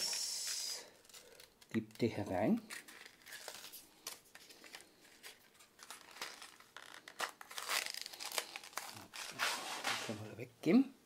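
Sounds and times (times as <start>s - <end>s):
plastic packet crinkling: 0.2s - 10.2s.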